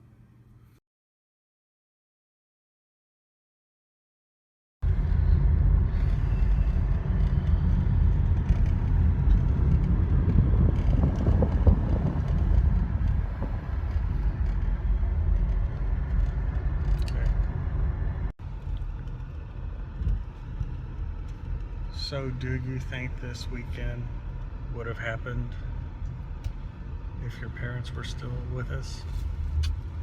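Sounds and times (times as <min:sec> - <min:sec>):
car rumbling in motion: 0:04.8 - 0:30.0.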